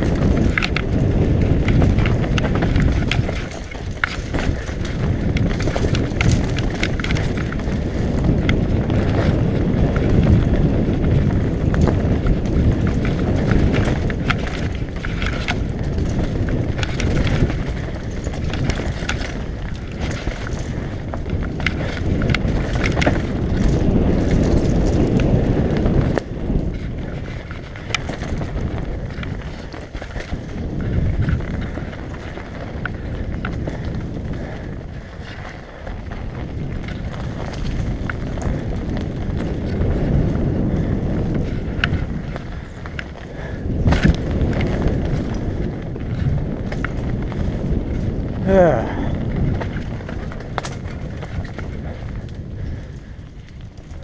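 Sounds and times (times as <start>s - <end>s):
bike clicks and rattles: 0.0s - 54.0s
tyres rolling over dirt: 0.0s - 54.0s
wind rushing over microphone: 0.0s - 54.0s.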